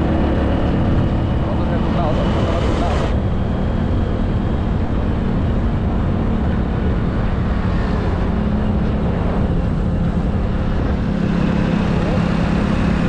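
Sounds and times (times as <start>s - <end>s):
motorcycle engine hum: 0.0s - 13.0s
wind rushing over microphone: 0.0s - 13.0s.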